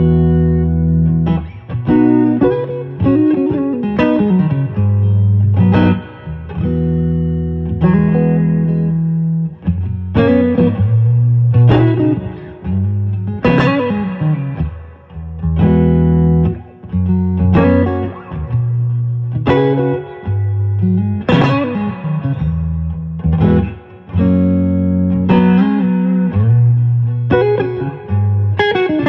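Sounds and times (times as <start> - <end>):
electric guitar strummed chords: 0.0 - 29.0.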